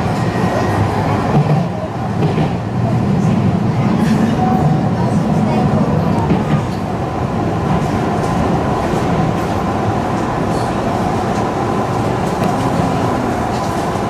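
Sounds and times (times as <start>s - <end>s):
train wheels and motors rumbling: 0.0s - 14.0s.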